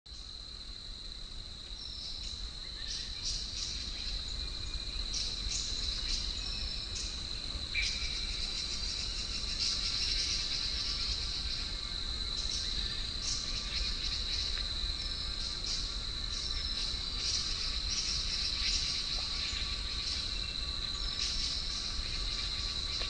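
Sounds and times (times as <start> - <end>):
insects buzzing: 0.1 - 23.0.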